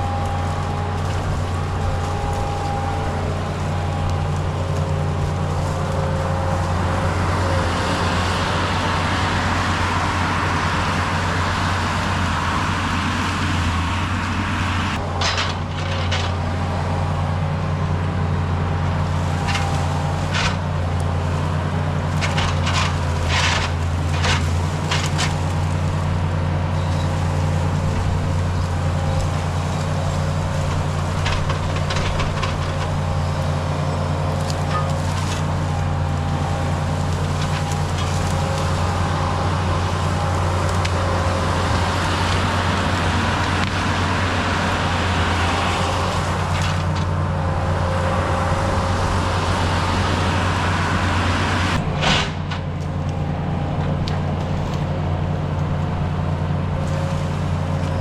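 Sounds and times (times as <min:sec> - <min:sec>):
skid steer engine running: 0:00.0 - 0:58.0.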